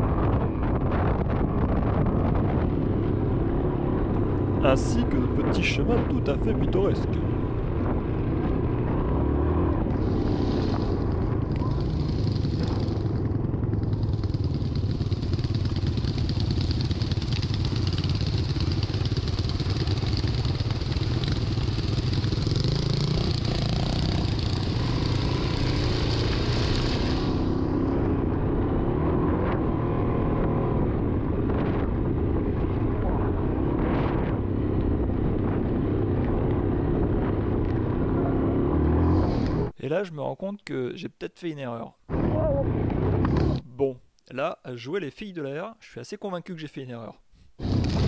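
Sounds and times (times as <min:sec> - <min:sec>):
motorcycle engine running: 0:00.1 - 0:39.7.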